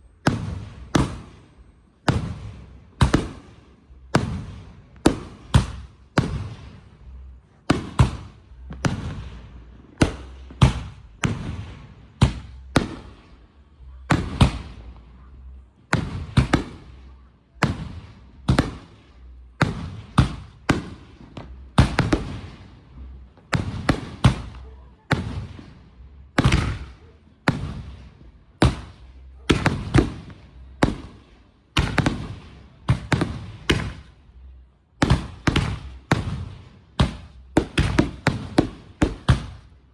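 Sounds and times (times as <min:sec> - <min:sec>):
firework bangs: 0:00.2 - 0:13.4, 0:14.0 - 0:15.0, 0:15.9 - 0:39.8.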